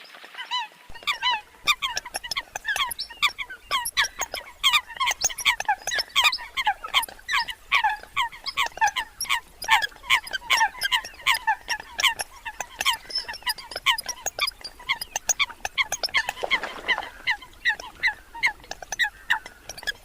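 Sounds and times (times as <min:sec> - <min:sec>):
flock of coots calling: 0:00.4 - 0:20.0.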